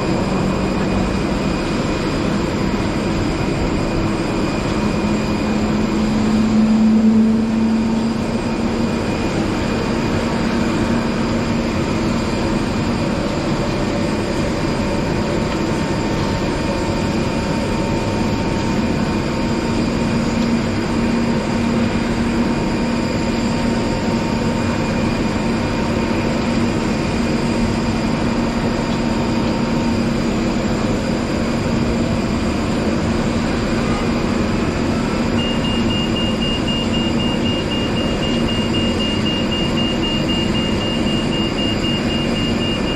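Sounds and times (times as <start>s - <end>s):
machinery hum and whine: 0.0s - 42.9s.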